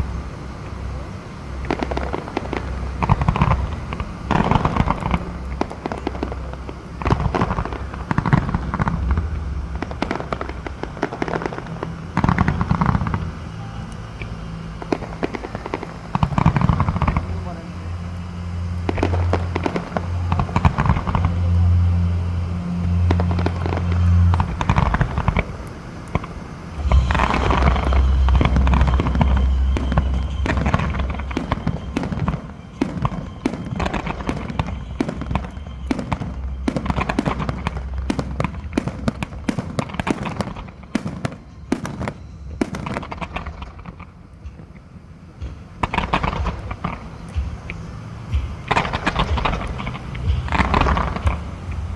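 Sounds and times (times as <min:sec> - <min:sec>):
fireworks bangs and crackles: 0:00.0 - 0:51.9
low rumble: 0:00.0 - 0:51.9.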